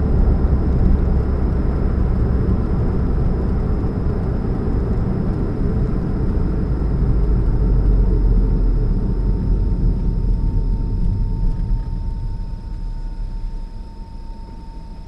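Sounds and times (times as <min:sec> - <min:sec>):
car engine low hum: 0:00.0 - 0:15.0.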